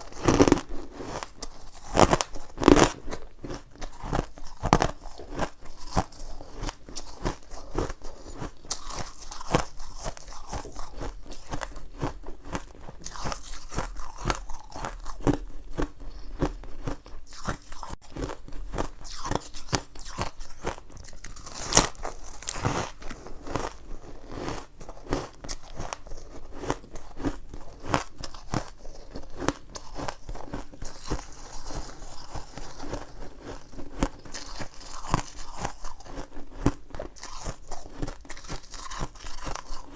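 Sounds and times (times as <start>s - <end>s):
person chewing ice crunches: 0.0s - 39.9s.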